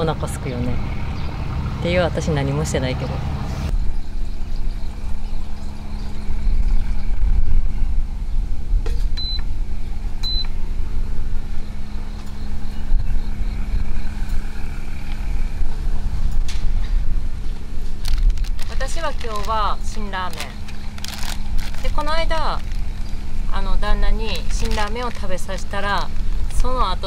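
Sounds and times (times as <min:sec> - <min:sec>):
low rumble and hum: 0:00.0 - 0:27.0.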